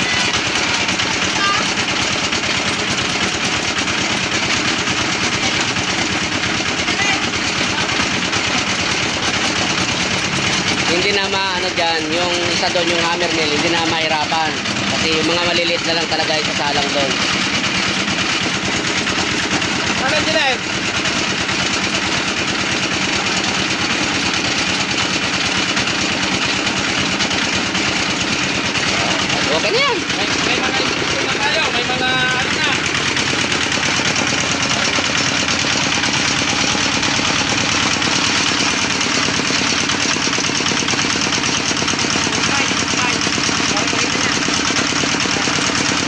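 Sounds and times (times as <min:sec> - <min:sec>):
rock crusher clattering: 0:00.0 - 0:46.0.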